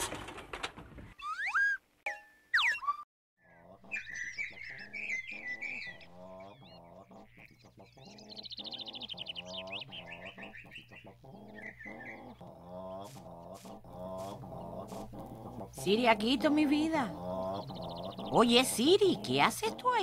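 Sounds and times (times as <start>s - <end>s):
birds chirping: 2.6s - 20.0s.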